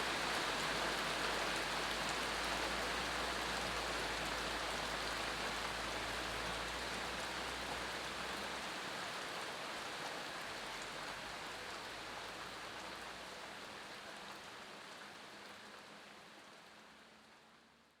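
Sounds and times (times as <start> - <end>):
steady rainfall: 0.0 - 17.8.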